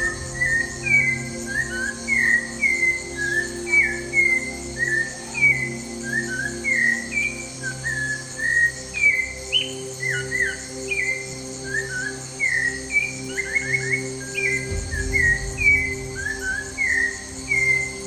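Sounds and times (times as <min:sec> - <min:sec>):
birds singing and chirping: 0:00.0 - 0:18.0
soft low drone tones: 0:00.0 - 0:18.0.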